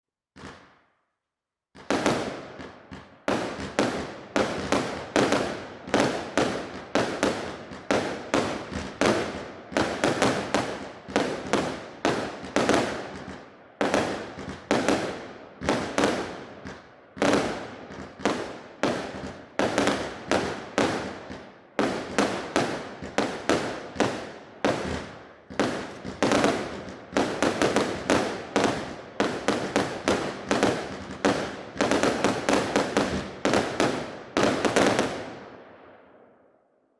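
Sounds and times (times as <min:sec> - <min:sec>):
fireworks firing sharp bangs: 0:00.4 - 0:00.8, 0:01.8 - 0:36.0.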